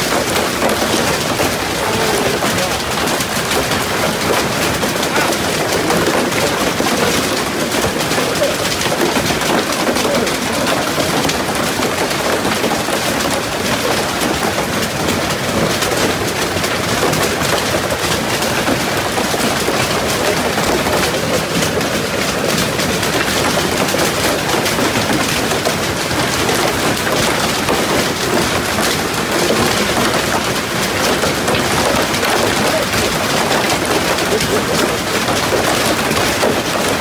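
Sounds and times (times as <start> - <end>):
hail pelting the ground: 0.0 - 37.0.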